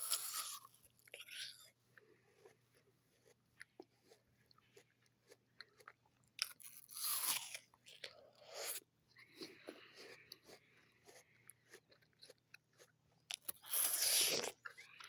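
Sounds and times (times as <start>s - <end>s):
apple crunching bite: 0.0s - 15.0s
person chewing apple: 0.0s - 15.0s.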